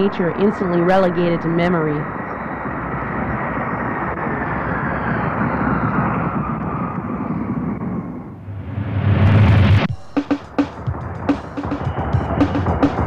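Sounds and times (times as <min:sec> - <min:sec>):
airplane flying past: 0:00.0 - 0:13.0.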